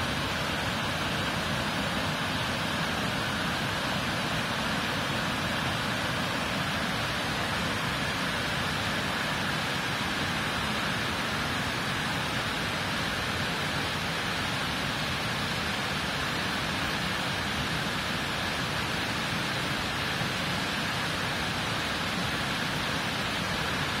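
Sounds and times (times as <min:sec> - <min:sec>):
rushing falling water: 0:00.0 - 0:24.0.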